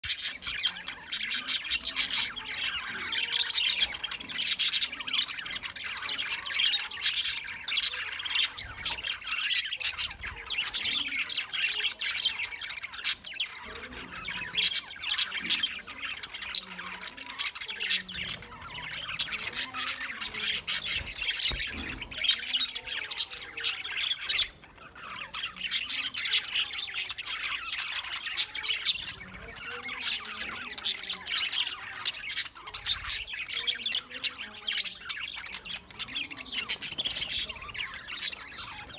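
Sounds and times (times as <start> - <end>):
parrots chattering and squawking: 0.0 - 38.9.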